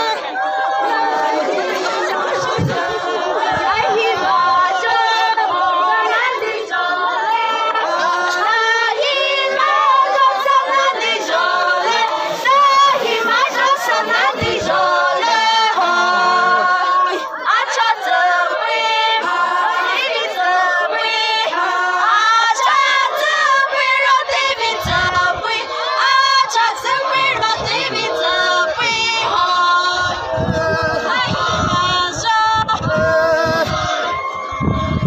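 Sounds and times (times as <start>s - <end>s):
group singing unaccompanied: 0.0s - 35.0s.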